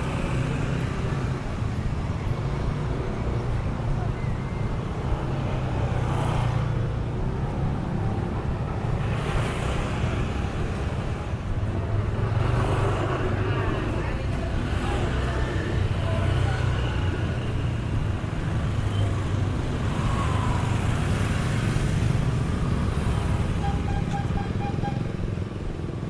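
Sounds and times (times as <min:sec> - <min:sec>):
rumble of traffic engines: 0:00.0 - 0:26.0
vehicles passing: 0:00.0 - 0:26.0.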